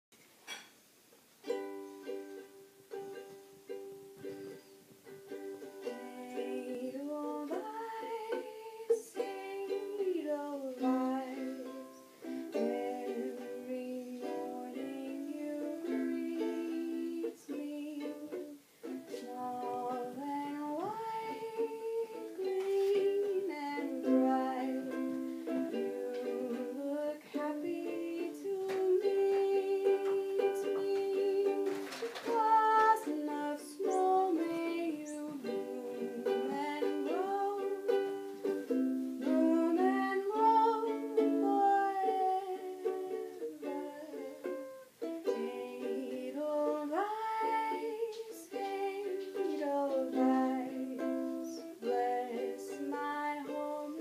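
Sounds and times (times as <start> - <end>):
ukulele strumming chords: 1.4 - 54.0
woman singing: 5.6 - 54.0.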